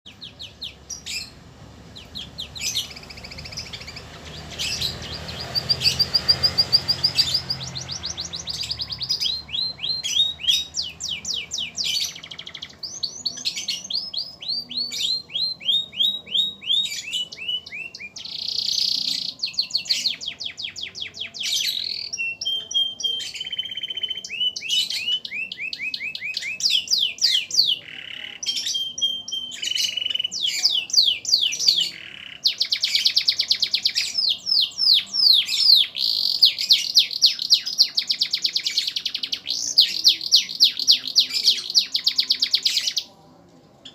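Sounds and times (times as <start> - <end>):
canary singing trills: 0.1 - 43.2.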